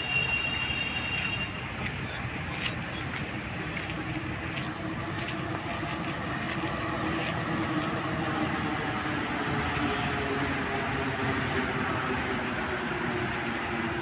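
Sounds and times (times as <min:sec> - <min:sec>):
train running across viaduct: 0:00.0 - 0:14.0.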